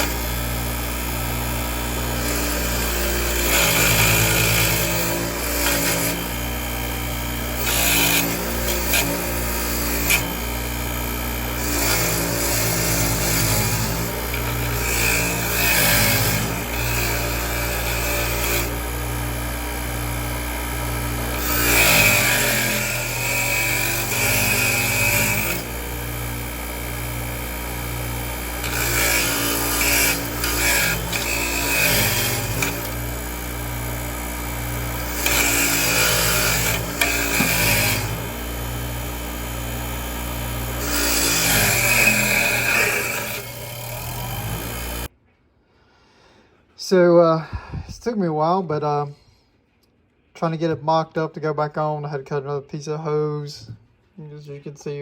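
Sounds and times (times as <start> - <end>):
power tool scraping metal: 0.0 - 45.1.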